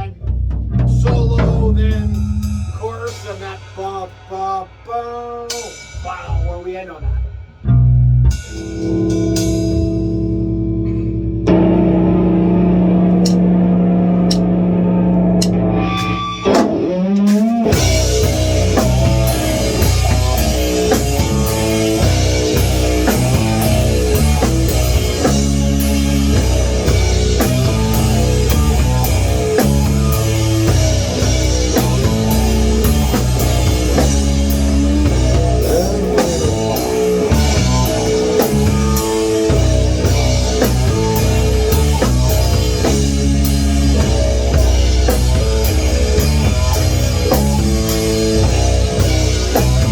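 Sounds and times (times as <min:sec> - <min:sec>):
rock band playing: 0:00.0 - 0:49.9
guitar note bent upward: 0:08.6 - 0:49.9.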